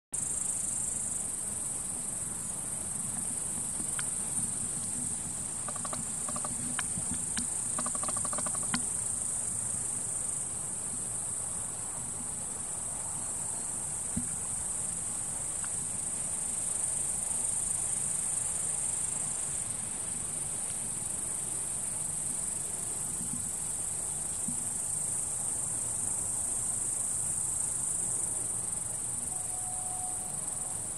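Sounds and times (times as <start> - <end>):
insect chorus trilling: 0.2 - 11.6, 12.3 - 30.9
faint ticks and chirps: 0.2 - 30.9.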